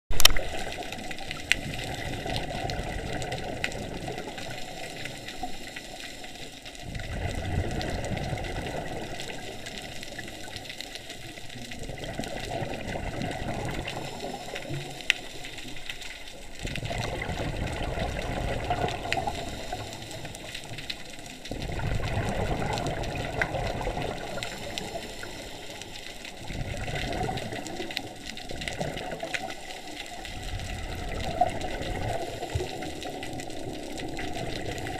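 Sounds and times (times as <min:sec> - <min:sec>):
underwater regulator bubbles: 0:00.1 - 0:34.9
faint clicks: 0:00.2 - 0:06.8, 0:07.8 - 0:34.9.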